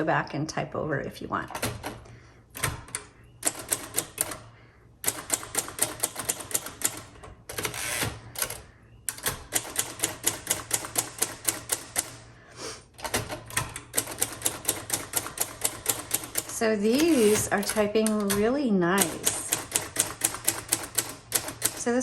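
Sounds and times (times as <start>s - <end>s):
manual typewriter typing: 1.4s - 12.4s, 13.0s - 22.0s.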